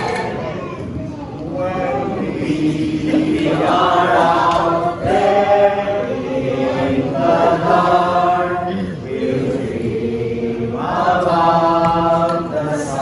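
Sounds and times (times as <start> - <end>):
group of voices singing: 1.5 - 13.0.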